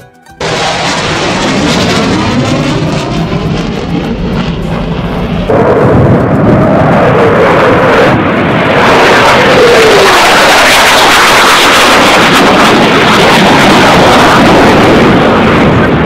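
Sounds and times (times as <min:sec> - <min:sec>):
jet whine falling in pitch: 0:00.0 - 0:16.0
jet engine roar: 0:00.4 - 0:16.0.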